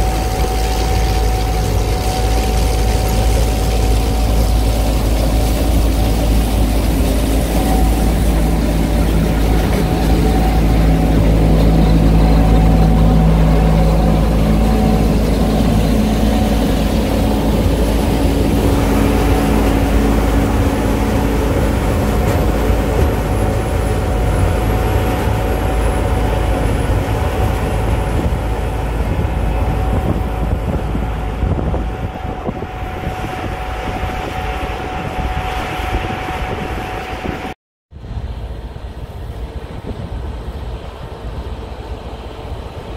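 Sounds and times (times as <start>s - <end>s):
combine harvester drone: 0.0s - 42.9s
machine whine: 0.0s - 42.9s.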